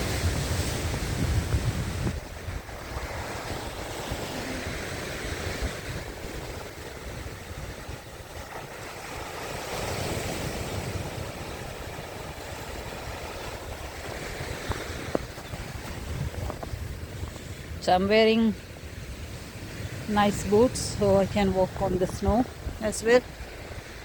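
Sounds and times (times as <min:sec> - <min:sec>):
waves washing against rocky shore: 0:00.0 - 0:24.0
wind buffeting microphone: 0:00.0 - 0:24.0.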